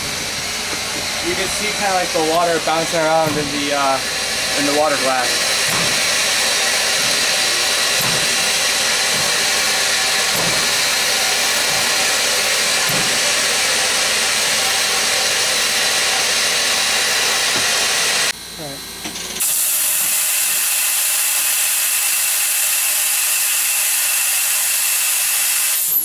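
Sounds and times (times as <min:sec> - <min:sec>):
loud steam hiss: 0:00.0 - 0:18.3, 0:19.4 - 0:26.0.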